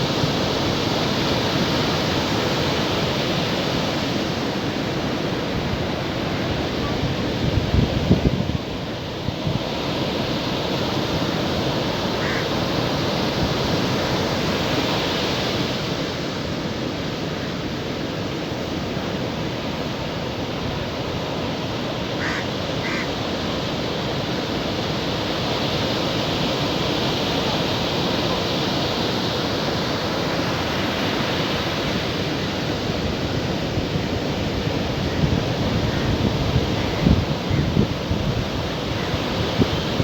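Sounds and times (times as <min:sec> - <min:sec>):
waves washing onto a beach: 0:00.0 - 0:40.0.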